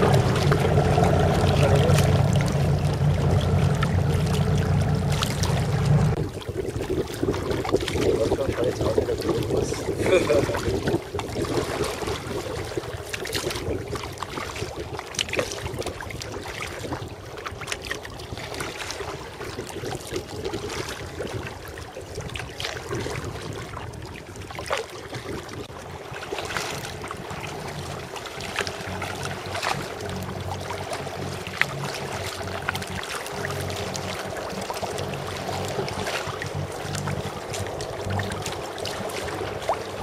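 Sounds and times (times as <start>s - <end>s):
paddle splashes and drips: 0.0s - 40.0s
water wash: 0.0s - 40.0s.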